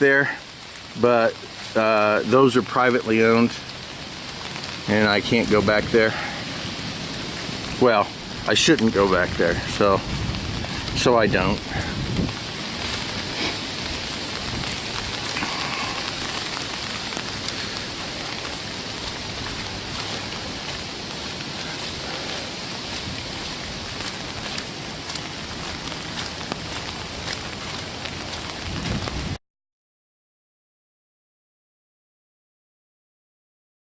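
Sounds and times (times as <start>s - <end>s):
steady rain falling: 0.0s - 29.4s
raindrop taps: 0.7s - 6.3s, 7.1s - 29.2s.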